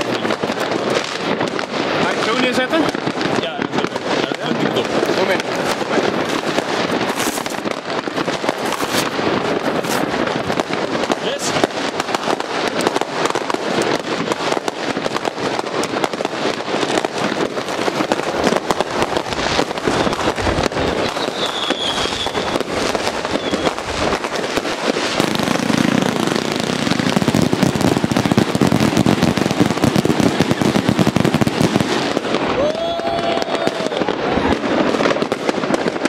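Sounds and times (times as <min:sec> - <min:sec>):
crackling bursts: 0:00.0 - 0:36.0
fireworks barrage: 0:00.0 - 0:36.0.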